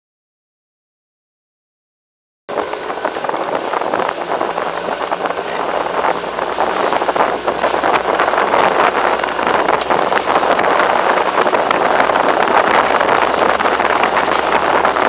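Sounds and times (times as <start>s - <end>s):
boat motor drone: 2.5s - 15.0s
water rushing: 2.5s - 15.0s
wind buffeting microphone: 2.5s - 15.0s.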